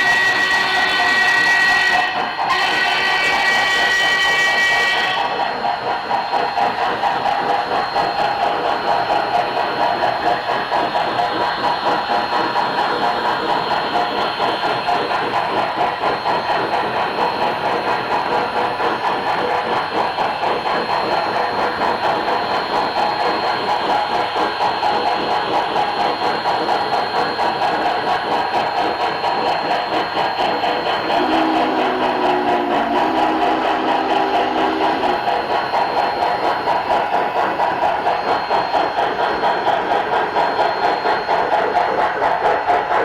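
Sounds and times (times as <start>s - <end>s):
model steam locomotive chuffing: 0.0s - 43.0s.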